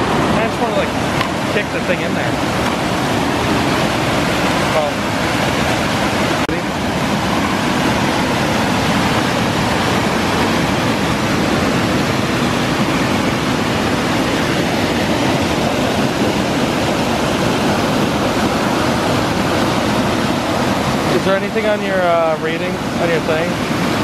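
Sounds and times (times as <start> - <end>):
water rushing over weir: 0.0 - 24.0.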